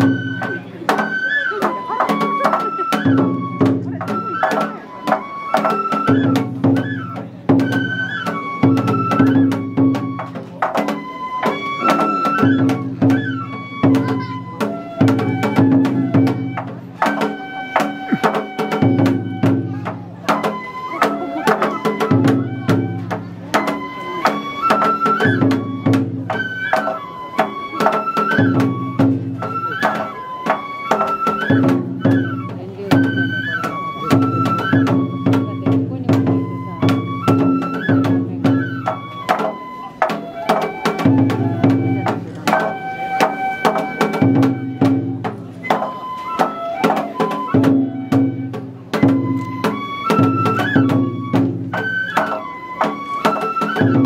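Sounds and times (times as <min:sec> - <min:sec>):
taiko drumming: 0:00.0 - 0:54.0
transverse flute melody: 0:00.0 - 0:54.0.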